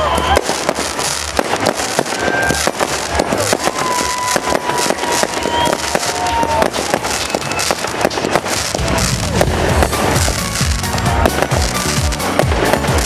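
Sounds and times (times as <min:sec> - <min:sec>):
fireworks crackling pops: 0:00.0 - 0:13.0
fireworks whistling: 0:00.0 - 0:13.0.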